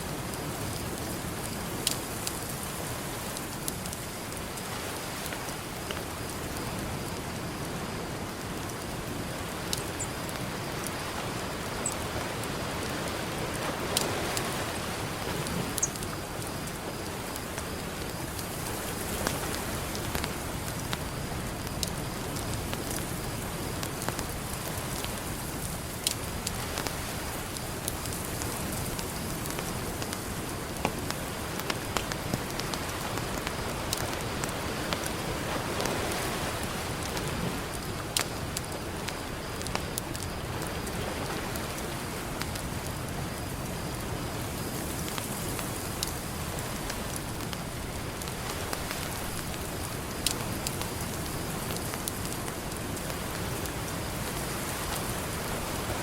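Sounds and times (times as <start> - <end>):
campfire crackling and popping: 0.0 - 56.0
ocean surf: 0.0 - 56.0.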